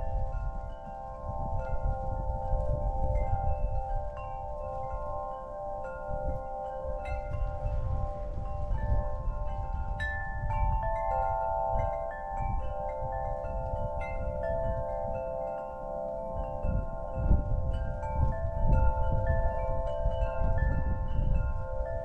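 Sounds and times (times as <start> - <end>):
wind chime ringing: 0.0 - 22.0
wind rumbling on microphone: 0.0 - 22.0.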